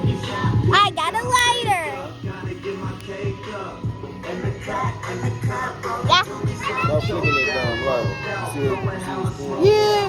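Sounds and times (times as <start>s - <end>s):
music with thumping bass beat: 0.0s - 10.0s.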